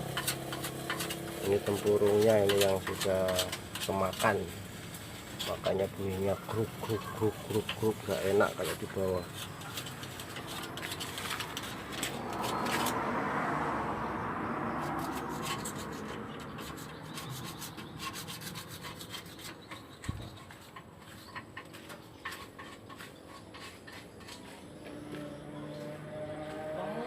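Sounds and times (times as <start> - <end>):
rubbing scraping noise: 0.0 - 13.4, 14.8 - 27.0.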